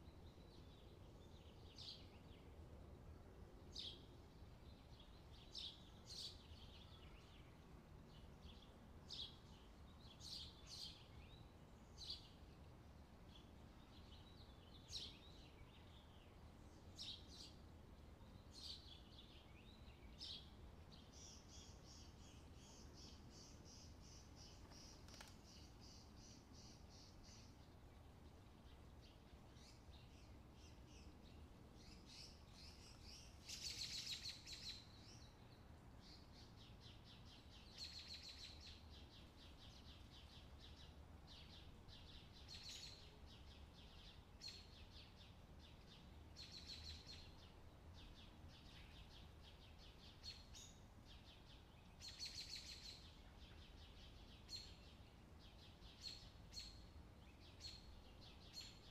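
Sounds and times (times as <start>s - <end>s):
faint birds chirping: 0.0s - 58.9s.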